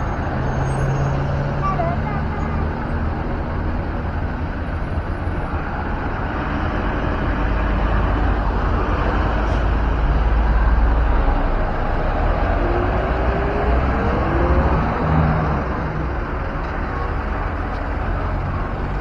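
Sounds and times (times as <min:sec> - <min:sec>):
bus engine rumbling past: 0:00.0 - 0:19.0.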